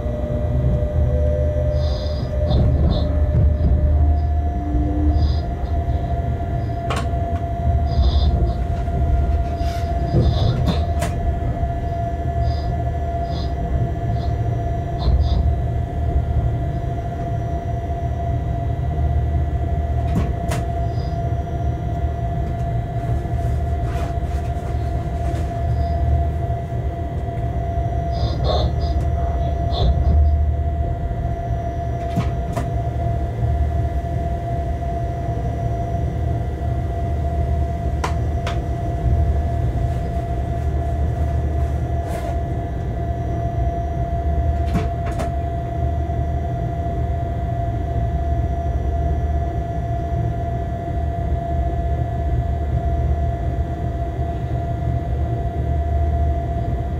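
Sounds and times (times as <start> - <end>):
constant whine: 0.0 - 56.9
locomotive low rumble: 0.0 - 56.9.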